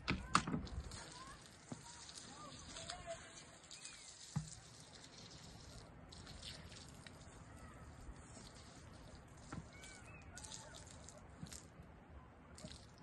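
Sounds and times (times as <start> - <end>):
water pouring onto soil: 0.0 - 11.9, 12.5 - 13.0.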